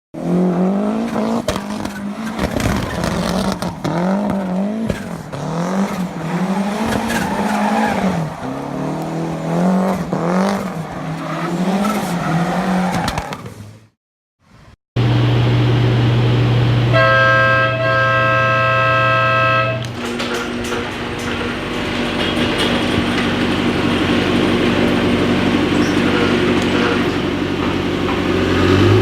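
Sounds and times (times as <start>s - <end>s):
car engine revving: 0.2s - 13.9s, 15.0s - 29.0s
tire squeal: 0.4s - 13.8s, 16.9s - 29.0s.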